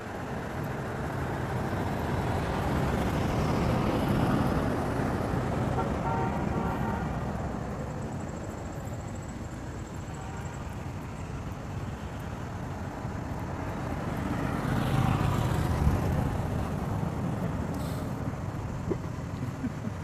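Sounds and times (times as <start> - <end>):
vehicle passing by: 0.0 - 9.9, 11.3 - 20.0
low rumble of road traffic: 0.0 - 20.0.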